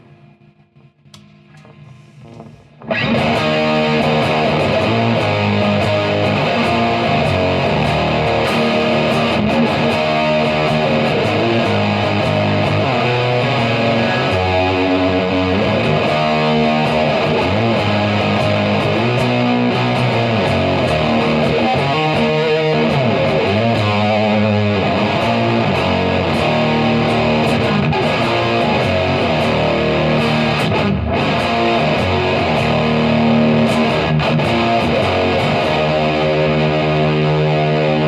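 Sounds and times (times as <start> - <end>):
overdriven electric guitar: 0.0 - 38.0.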